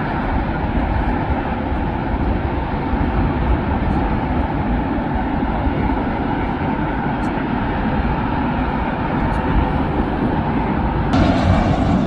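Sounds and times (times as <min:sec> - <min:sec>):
jet airliner engine rumble: 0:00.0 - 0:12.0.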